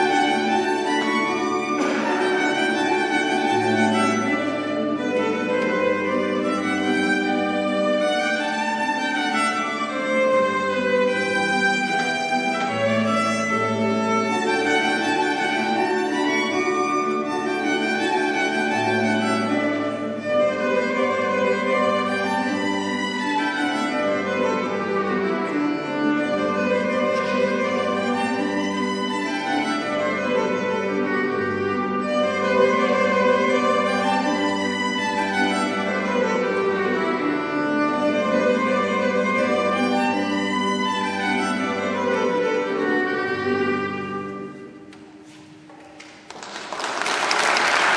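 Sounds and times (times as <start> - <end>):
bowed violin: 0.0 - 46.2.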